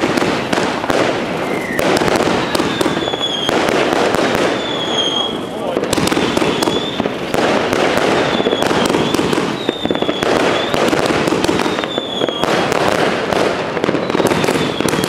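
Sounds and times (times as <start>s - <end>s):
fireworks shots and crackling: 0.0s - 15.0s.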